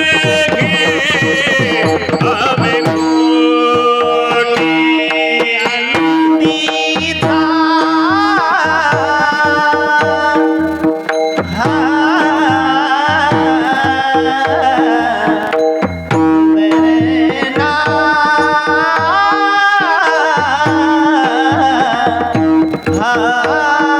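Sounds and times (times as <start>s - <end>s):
held accompanying notes: 0.0s - 23.9s
person singing devotional melody: 0.0s - 23.9s.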